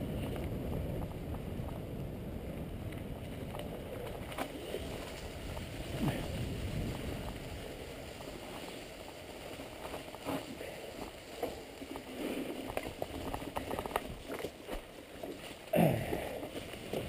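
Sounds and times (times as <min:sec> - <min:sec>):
bike tyres rolling over leaves and stones: 0:00.0 - 0:17.0.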